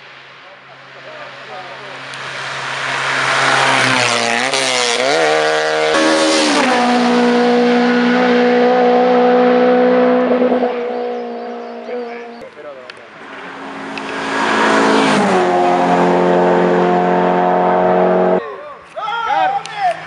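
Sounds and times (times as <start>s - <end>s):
race car engine at full throttle: 0.0s - 18.4s.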